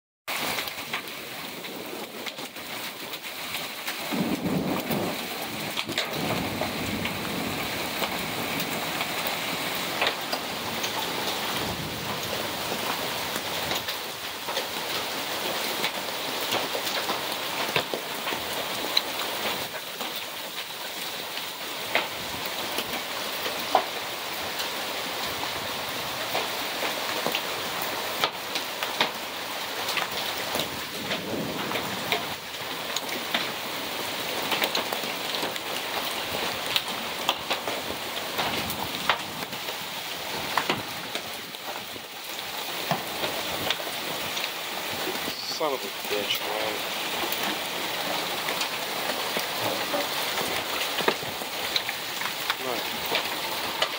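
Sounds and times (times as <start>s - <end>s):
hailstones clicking: 0.3s - 53.9s
heavy rain hissing: 0.4s - 53.9s.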